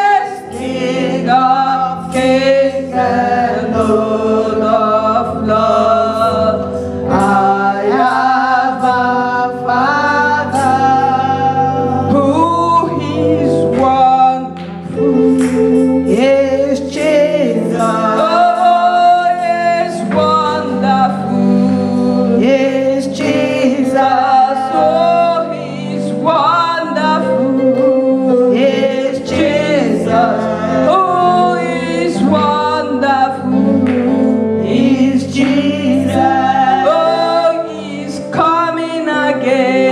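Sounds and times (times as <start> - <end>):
gospel choir singing: 0.0 - 39.9
musical accompaniment: 0.0 - 39.9.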